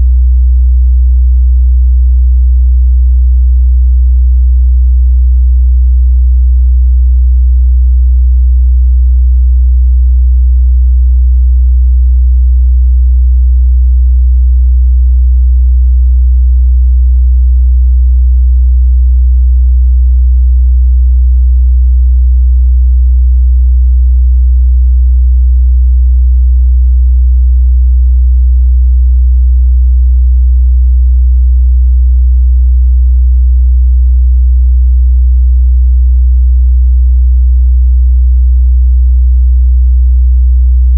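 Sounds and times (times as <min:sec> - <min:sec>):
low sine test tone: 0:00.0 - 0:37.2, 0:39.9 - 0:40.9.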